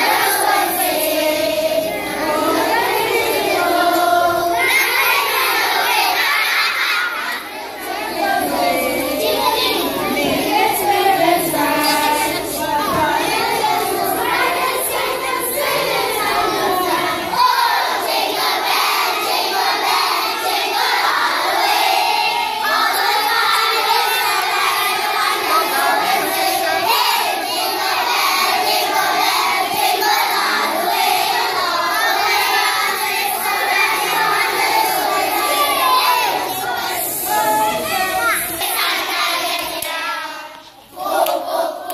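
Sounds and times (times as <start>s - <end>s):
children singing a carol: 0.0s - 41.9s.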